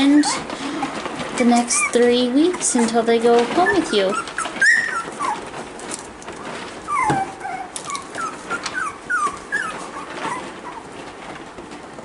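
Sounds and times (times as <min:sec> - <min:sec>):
puppies whining and squeaking: 0:00.0 - 0:11.4
light scratching and clicks: 0:00.0 - 0:12.0.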